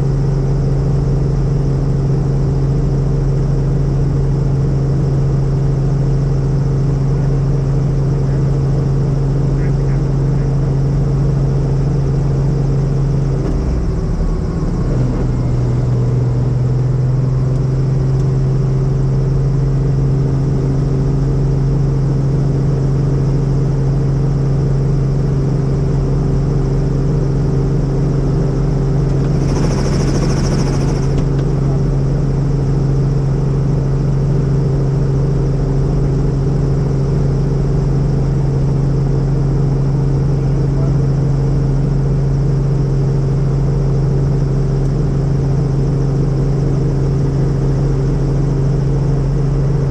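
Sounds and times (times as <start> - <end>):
helicopter turbine and rotor drone: 0.0 - 49.9.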